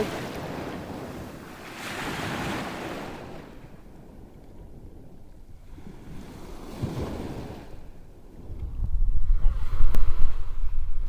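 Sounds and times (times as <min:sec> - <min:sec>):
sea waves breaking: 0:00.0 - 0:04.2, 0:05.7 - 0:11.0.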